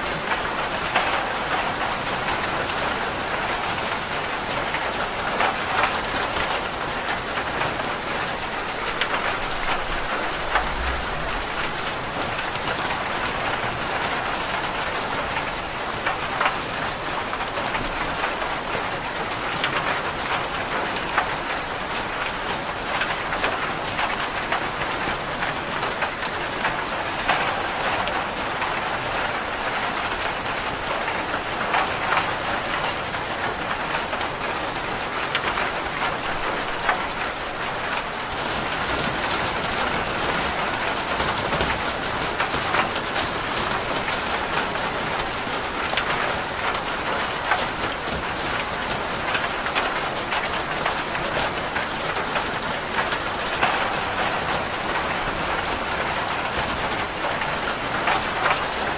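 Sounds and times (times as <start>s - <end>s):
rain falling on a roof: 0.0s - 58.9s.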